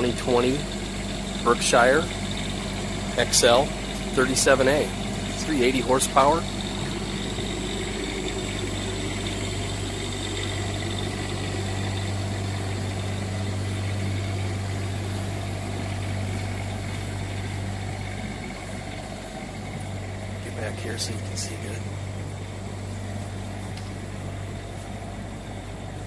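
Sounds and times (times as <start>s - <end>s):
diesel engine low hum: 0.0s - 26.0s.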